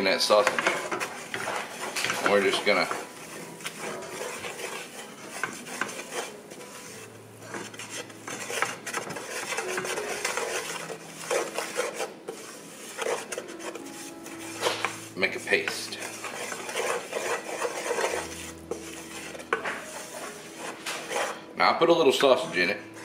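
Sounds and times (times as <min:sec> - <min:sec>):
spoon scraping a frying pan: 0:00.0 - 0:21.6.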